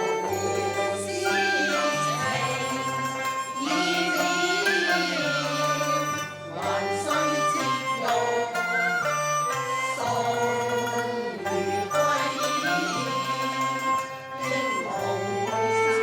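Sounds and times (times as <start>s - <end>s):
traditional ensemble playing opera music: 0.0s - 16.0s.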